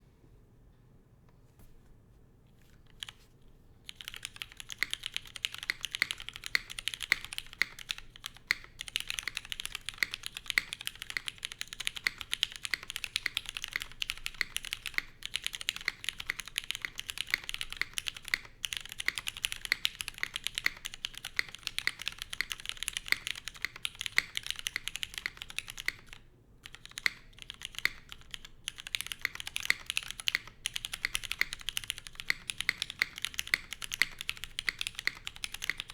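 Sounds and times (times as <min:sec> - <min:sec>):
typing on mechanical keyboard: 0:02.9 - 0:03.2, 0:03.9 - 0:35.9.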